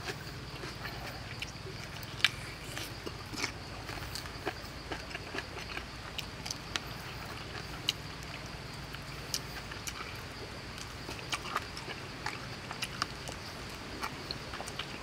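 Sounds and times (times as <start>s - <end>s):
man chewing with wet smacks: 0.0s - 15.0s
steady low hum: 0.0s - 15.0s.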